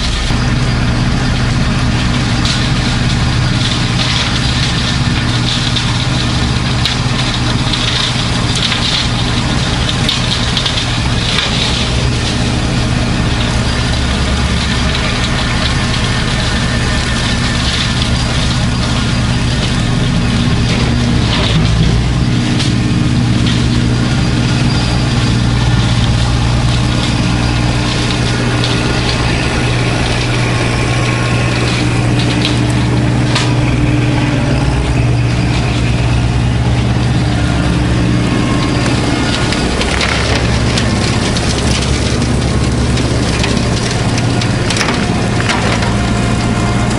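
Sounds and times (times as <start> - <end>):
rotary cutter through undergrowth: 0.0 - 46.9
tractor diesel engine running: 0.0 - 46.9.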